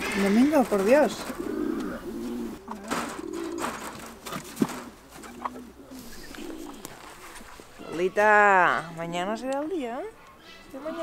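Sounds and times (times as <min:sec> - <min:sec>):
pigeons cooing: 0:00.0 - 0:09.0, 0:10.0 - 0:11.0
birds rustling on straw: 0:00.0 - 0:11.0.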